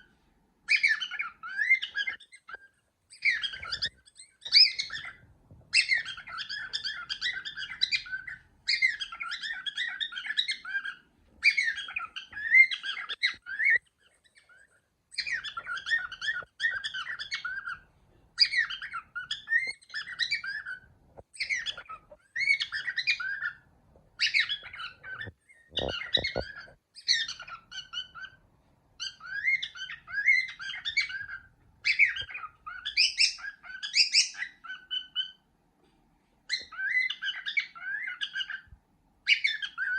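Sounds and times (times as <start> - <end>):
cockatiel chirping and whistling: 0.6 - 23.6, 24.2 - 28.4, 29.0 - 35.4, 36.5 - 39.9.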